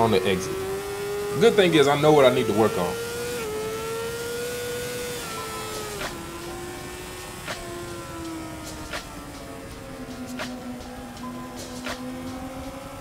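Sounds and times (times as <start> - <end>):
motorcycle engine revving high: 0.0 - 13.0.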